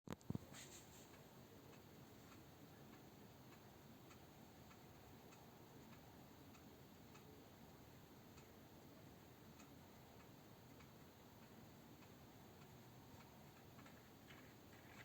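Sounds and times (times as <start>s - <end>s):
clock ticking: 1.1s - 15.0s.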